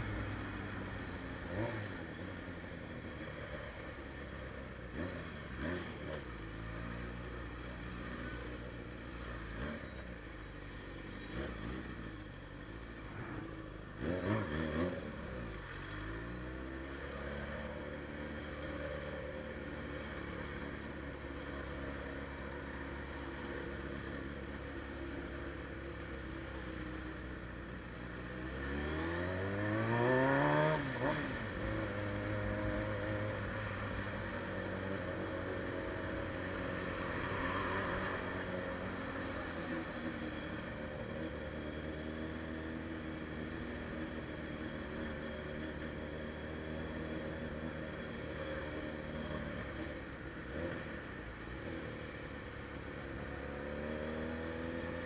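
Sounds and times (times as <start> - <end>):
motorcycle engine revving and cruising: 0.0 - 55.0.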